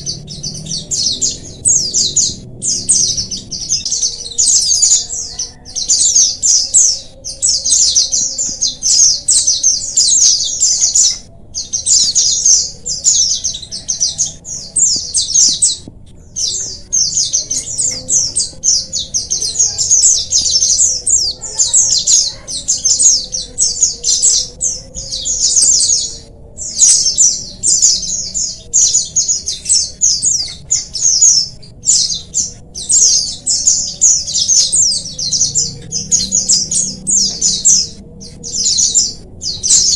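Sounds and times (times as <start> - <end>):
flock of birds twittering: 0.0 - 39.9.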